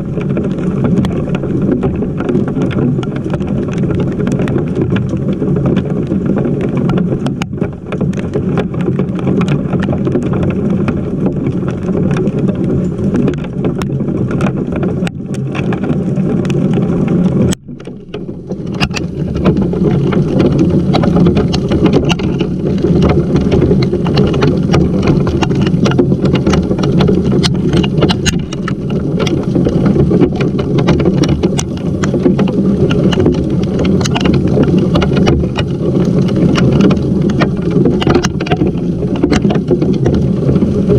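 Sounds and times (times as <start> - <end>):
rain and hail pelting camera: 0.0 - 40.9.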